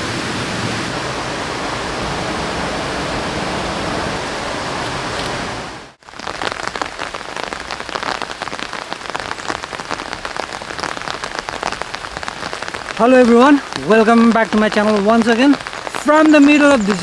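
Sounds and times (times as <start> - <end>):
heavy rain falling: 0.0 - 17.0
mountain river rushing: 0.0 - 17.0.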